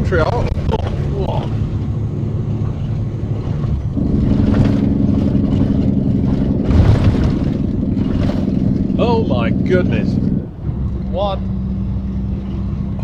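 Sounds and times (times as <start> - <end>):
truck engine and road rumble: 0.0 - 13.0
truck jolts: 0.0 - 13.0
droning note: 1.6 - 12.3.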